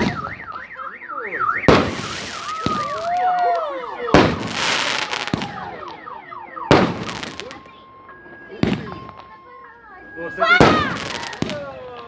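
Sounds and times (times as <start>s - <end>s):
car alarm siren warbling: 0.0s - 12.0s
firework bangs: 0.0s - 12.0s
firework crackling and whistling: 0.0s - 12.0s.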